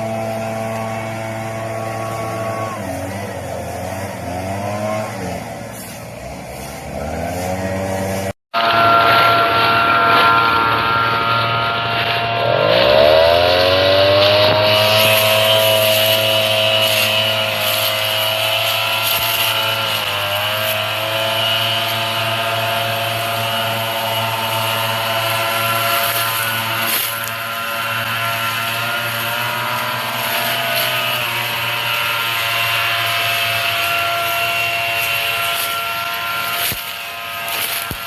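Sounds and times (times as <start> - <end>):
drone motors whining: 0.0 - 38.0.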